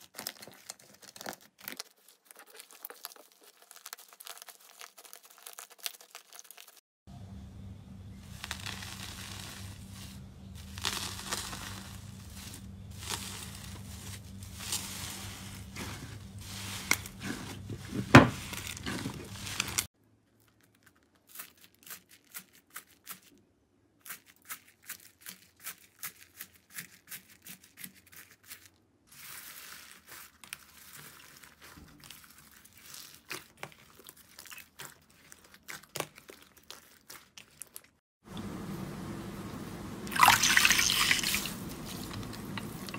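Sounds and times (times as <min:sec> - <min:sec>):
foil crinkling: 0:00.0 - 0:06.8, 0:08.2 - 0:23.4, 0:24.0 - 0:38.0
slime squishing: 0:00.0 - 0:06.8, 0:08.3 - 0:23.4, 0:24.0 - 0:38.0.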